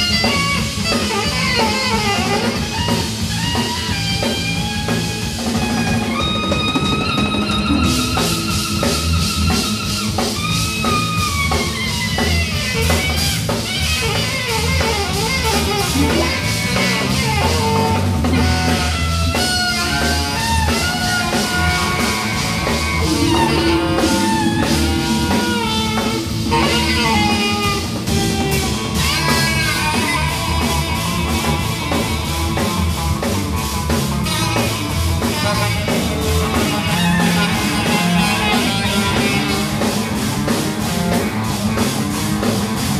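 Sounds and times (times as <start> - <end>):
saxophone melody: 0.0 - 41.4
live band playing: 0.0 - 42.9.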